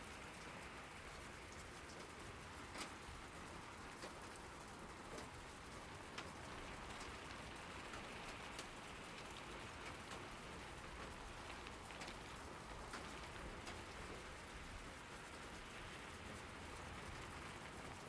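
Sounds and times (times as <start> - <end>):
raindrops ticking on surfaces: 0.0 - 18.0
steady rain hiss: 0.0 - 18.0.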